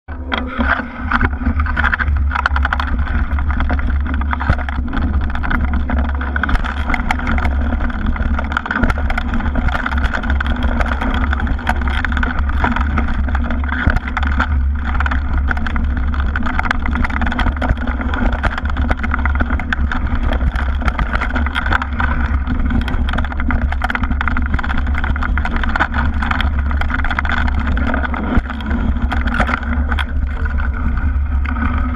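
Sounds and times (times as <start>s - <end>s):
bike rattling over bumps: 0.1s - 31.9s
bike tyres rumbling on dirt: 0.1s - 31.9s.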